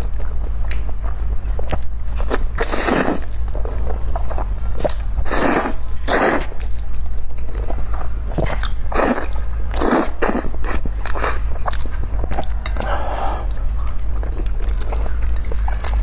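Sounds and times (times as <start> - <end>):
wet chewing: 0.2 - 16.0.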